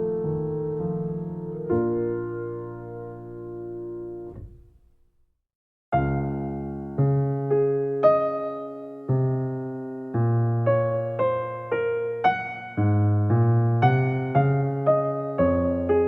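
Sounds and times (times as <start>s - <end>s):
slow electric piano melody: 0.0s - 4.7s, 6.0s - 16.0s.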